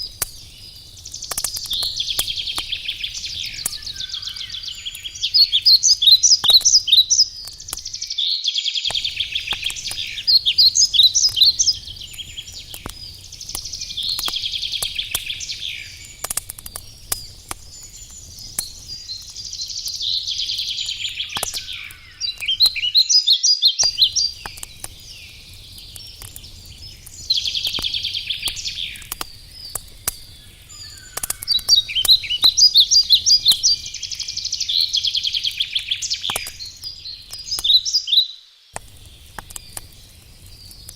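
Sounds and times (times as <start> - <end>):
songbird singing trilled phrases: 0.0 - 39.8
campfire crackling and popping: 0.0 - 40.9.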